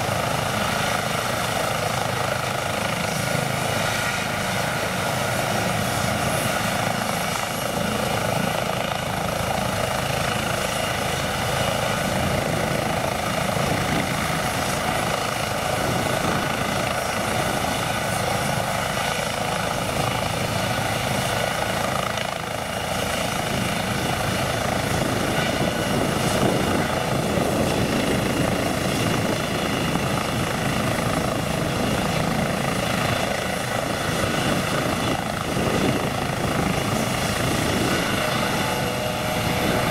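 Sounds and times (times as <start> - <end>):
helicopter running on ground: 0.0 - 39.9.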